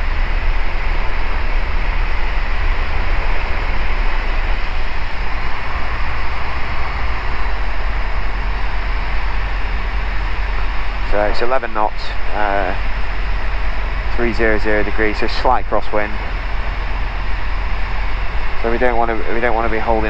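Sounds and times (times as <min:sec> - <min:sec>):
deep rumble: 0:00.0 - 0:20.0
light aircraft engine and propeller: 0:00.0 - 0:20.0.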